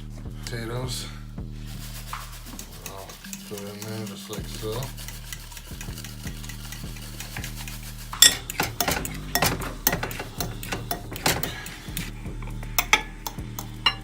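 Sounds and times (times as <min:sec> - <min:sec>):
utensil stirring in a pot: 0:01.5 - 0:14.0.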